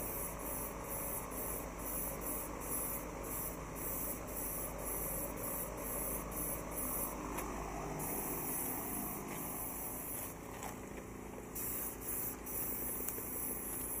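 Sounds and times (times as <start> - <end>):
spray gun hissing: 0.0 - 10.4, 11.5 - 14.0.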